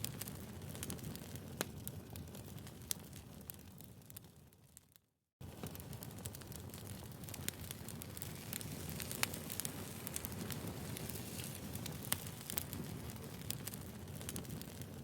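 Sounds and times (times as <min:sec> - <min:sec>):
wood fire crackling and popping: 0:00.0 - 0:04.8, 0:05.4 - 0:15.0.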